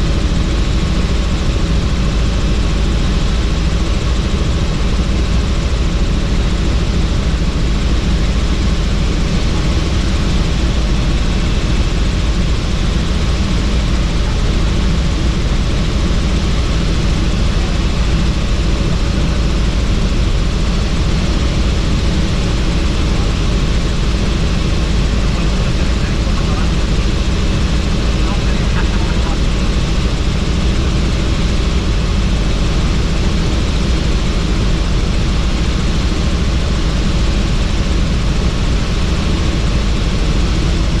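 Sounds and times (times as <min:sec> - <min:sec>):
helicopter rotor and engine: 0:00.0 - 0:41.0.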